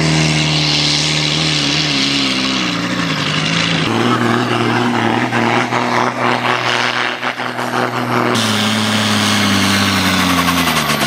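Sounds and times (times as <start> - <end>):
tractor diesel engine running flat out: 0.0 - 11.0.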